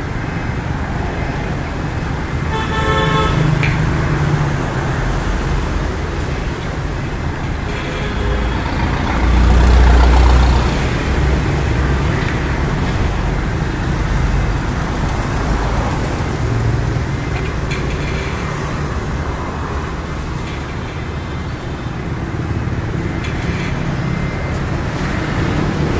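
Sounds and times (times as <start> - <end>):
street traffic passing: 0.0 - 25.9.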